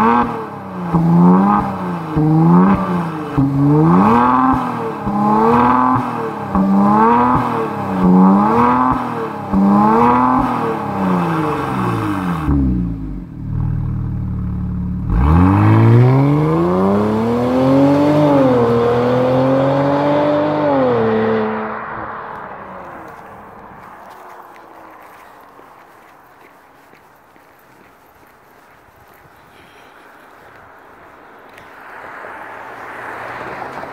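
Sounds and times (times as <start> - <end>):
car engine revving and accelerating: 0.0 - 26.7, 31.4 - 33.9.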